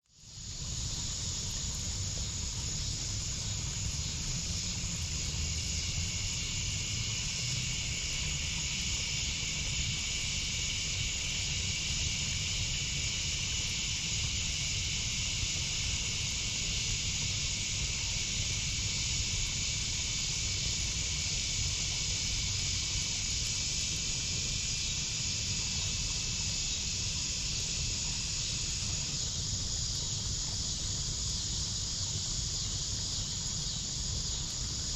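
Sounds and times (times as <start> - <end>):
crickets and night insects chirping: 0.1 - 34.9.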